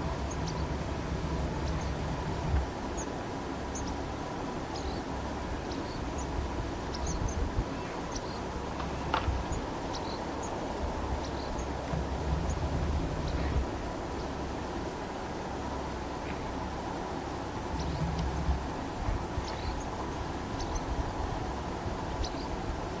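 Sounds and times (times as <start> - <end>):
small birds chirping: 0.0 - 15.1, 16.1 - 22.6
steady low rumble: 0.0 - 23.0.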